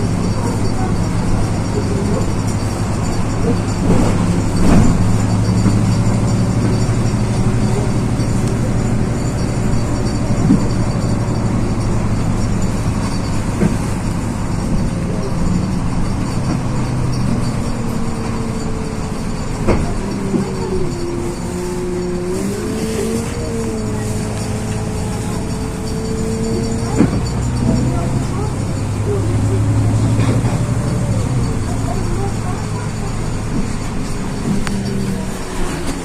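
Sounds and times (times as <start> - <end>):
bus engine drone: 0.0 - 36.0
road noise: 0.0 - 36.0.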